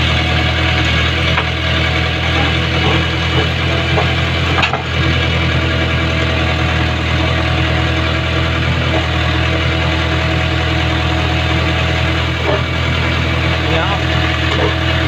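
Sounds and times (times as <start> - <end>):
backhoe digging wet sand: 0.0 - 15.0
diesel engine running: 0.0 - 15.0.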